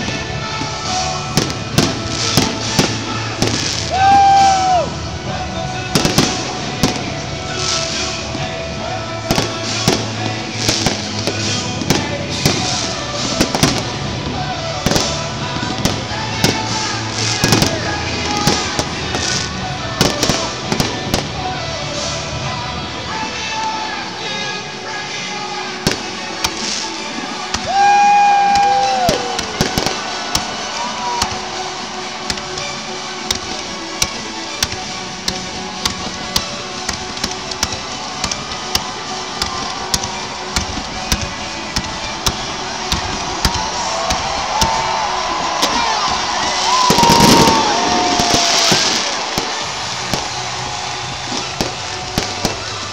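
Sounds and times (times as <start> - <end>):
fireworks launching and bursting: 0.0 - 52.9
music playing: 0.0 - 52.9.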